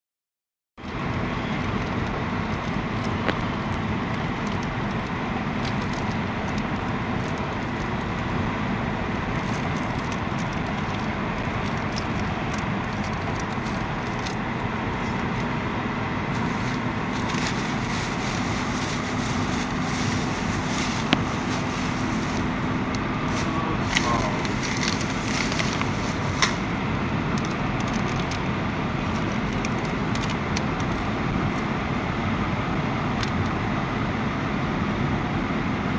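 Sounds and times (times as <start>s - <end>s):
steady rumbling road noise: 0.8s - 35.9s
light crackles and clicks: 0.9s - 15.6s, 16.2s - 31.7s.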